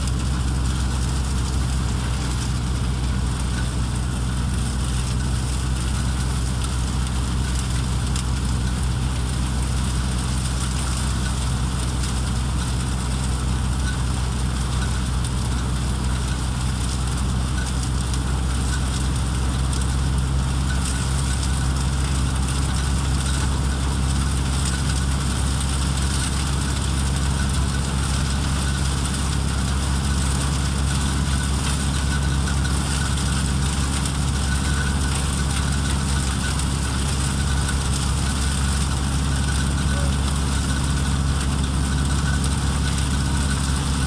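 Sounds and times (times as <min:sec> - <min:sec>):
threshing machine drone: 0:00.0 - 0:44.0.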